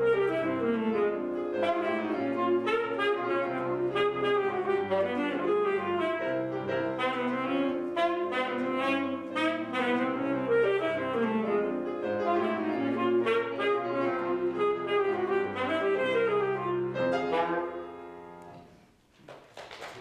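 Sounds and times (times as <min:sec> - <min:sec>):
alto saxophone: 0:00.0 - 0:18.7
piano accompaniment: 0:00.0 - 0:19.0.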